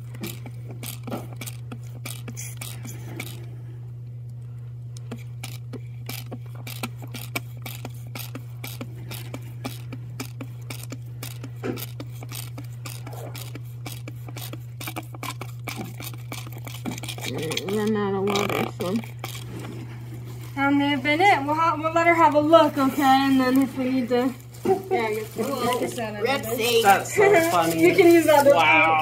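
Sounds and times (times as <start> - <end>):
low pump hum: 0.0 - 29.0.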